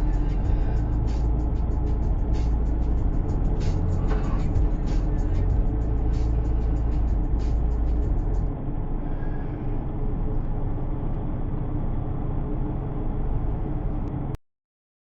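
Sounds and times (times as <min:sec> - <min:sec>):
car road and engine noise: 0:00.0 - 0:14.4.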